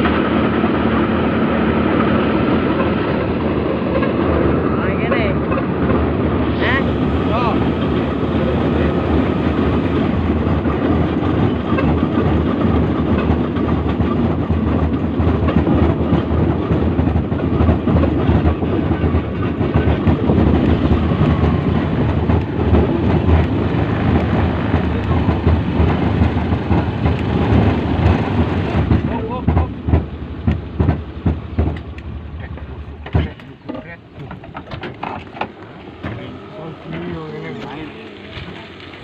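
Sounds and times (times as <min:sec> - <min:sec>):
rail trolley rumbling: 0:00.0 - 0:39.0
steel wheels clattering on rails: 0:00.0 - 0:39.0.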